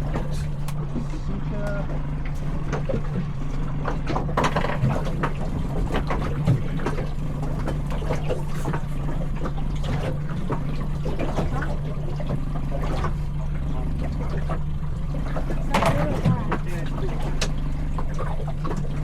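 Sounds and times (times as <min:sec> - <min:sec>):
steady low hum: 0:00.0 - 0:19.0
water splashing against boat hull: 0:00.0 - 0:19.0.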